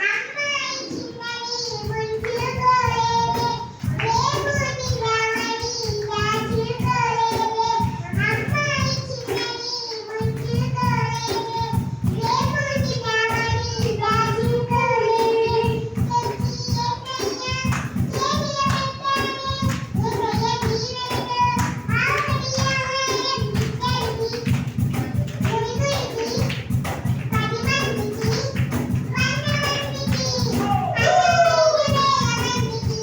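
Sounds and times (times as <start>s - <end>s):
children singing: 0.0s - 26.6s, 29.2s - 33.0s
backing music with steady beat: 0.9s - 33.0s.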